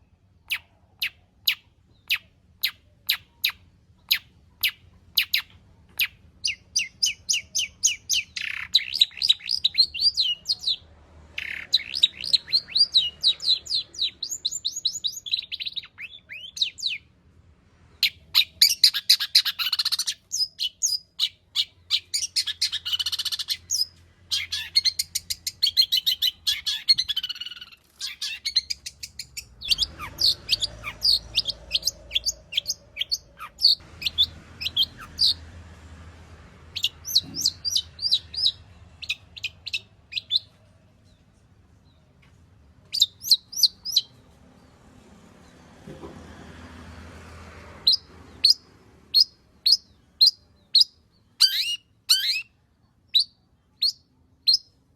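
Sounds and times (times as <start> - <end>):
bird chattering song: 0.4 - 17.1, 18.0 - 35.4, 36.7 - 42.1, 42.8 - 44.2, 47.8 - 54.8.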